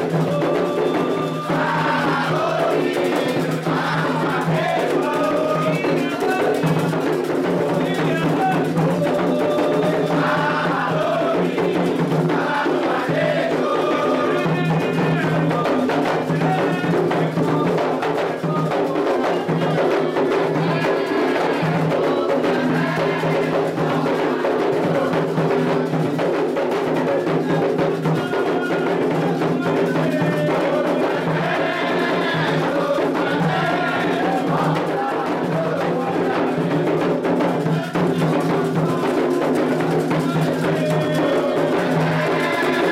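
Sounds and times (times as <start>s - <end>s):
hand drums and percussion: 0.0s - 42.9s
voices singing chants: 0.0s - 42.9s.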